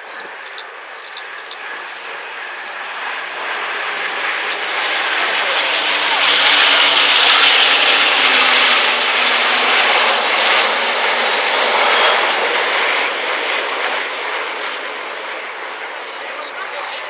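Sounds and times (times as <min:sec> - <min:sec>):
jet and propeller aircraft flying over: 0:00.0 - 0:17.0.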